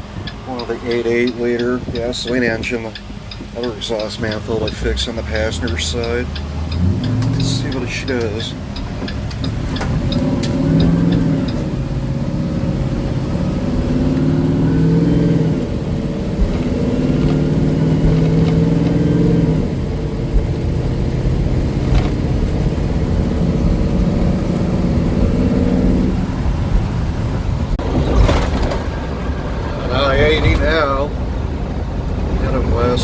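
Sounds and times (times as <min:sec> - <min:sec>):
bus engine accelerating: 0:00.0 - 0:33.0.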